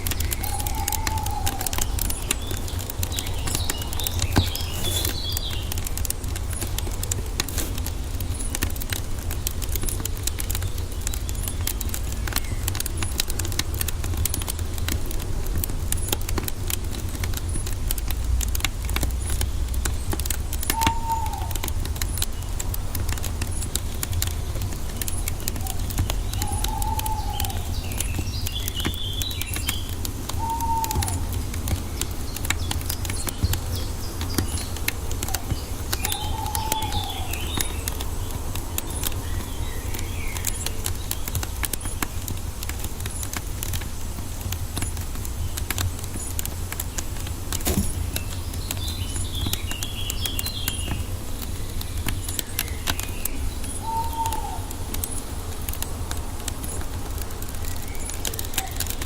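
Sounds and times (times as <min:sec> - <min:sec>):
high bird chirping song: 0:00.0 - 0:13.5, 0:19.0 - 0:43.4, 0:47.6 - 0:59.0
birds calling: 0:00.0 - 0:59.0
wood fire crackling and popping: 0:00.0 - 0:59.0.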